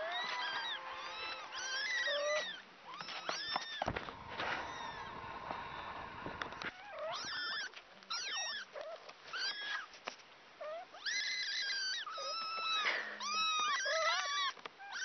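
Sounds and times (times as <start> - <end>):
kittens mewing: 0.0 - 5.8, 6.4 - 9.9, 10.6 - 15.0.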